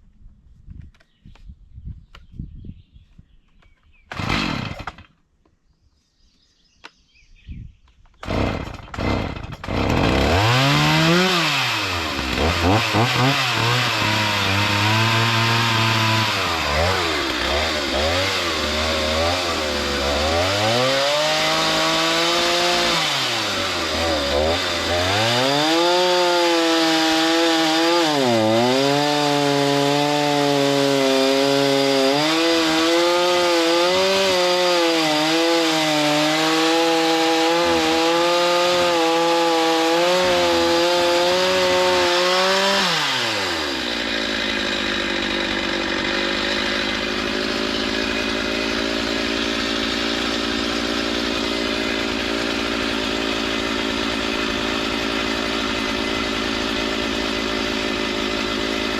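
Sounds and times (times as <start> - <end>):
chainsaw milling lumber: 4.0 - 5.2, 8.2 - 58.9.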